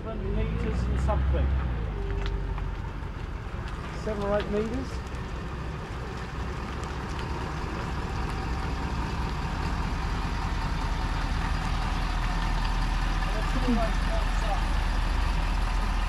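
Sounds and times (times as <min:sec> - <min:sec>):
pickup truck engine idling: 0:01.7 - 0:16.0.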